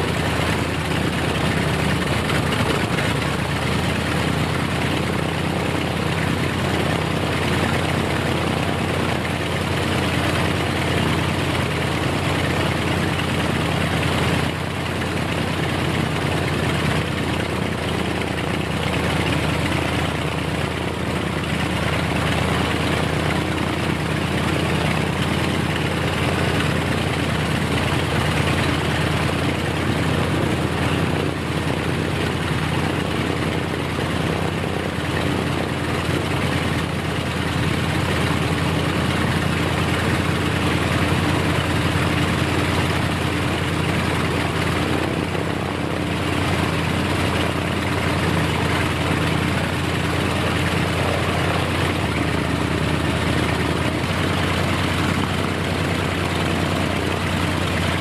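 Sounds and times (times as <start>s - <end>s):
model aircraft engine running: 0.0s - 58.0s.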